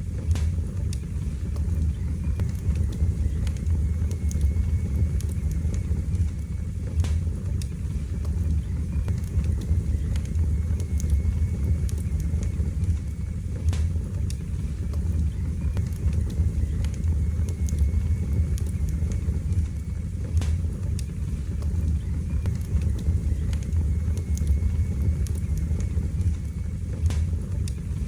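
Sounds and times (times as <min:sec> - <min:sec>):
fire low rumble: 0:00.0 - 0:28.0
wood fire crackling and popping: 0:00.0 - 0:28.0.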